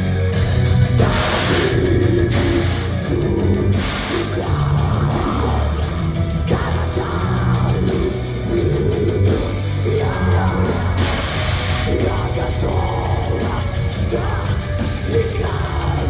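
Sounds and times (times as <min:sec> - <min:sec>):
bass guitar: 0:00.0 - 0:16.0
distorted electric guitars: 0:00.0 - 0:16.0
drums: 0:00.0 - 0:16.0
person singing: 0:00.9 - 0:16.0.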